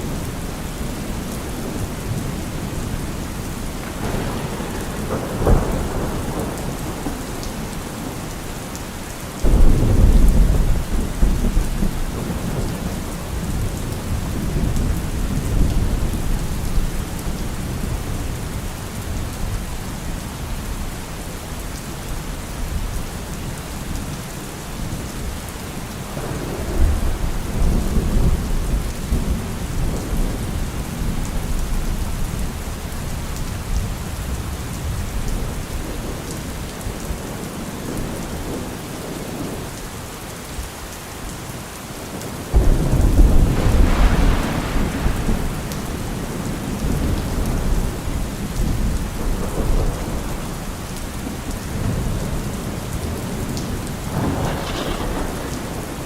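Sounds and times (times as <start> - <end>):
thunder rumbling: 0.0 - 8.7, 9.4 - 18.7, 26.0 - 39.6, 42.1 - 56.0
heavy rain on car roof: 0.0 - 56.0.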